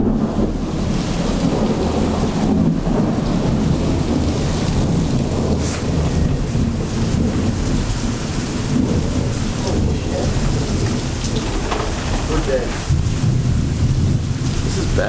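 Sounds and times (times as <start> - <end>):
heavy rain pouring: 0.0 - 15.0
low rumble of thunder: 0.0 - 15.0.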